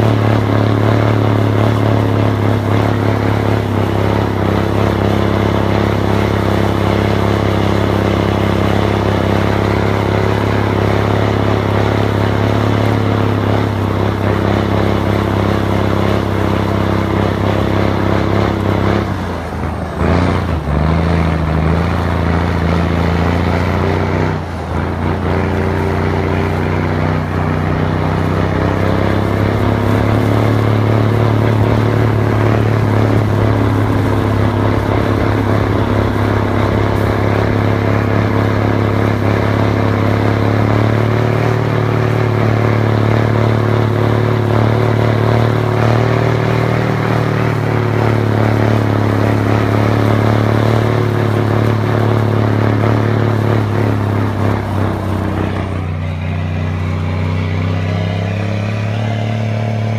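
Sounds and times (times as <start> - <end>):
manure spreader clattering: 0.0 - 58.8
truck diesel engine pulling: 0.0 - 59.9.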